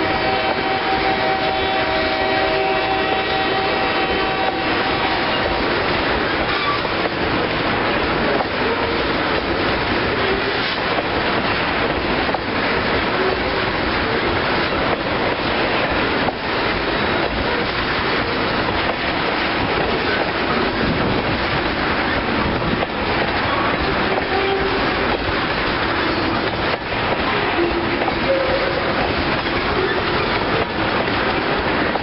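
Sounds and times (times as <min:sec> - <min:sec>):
train wheels rumbling on rails: 0:00.0 - 0:32.0
wheels clattering over rail joints: 0:04.2 - 0:32.0.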